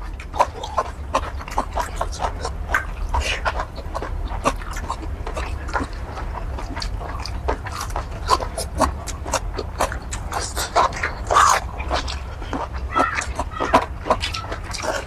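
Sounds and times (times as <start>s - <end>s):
chewing and lip-smacking: 0.0s - 15.0s
steady low hum: 0.0s - 15.0s.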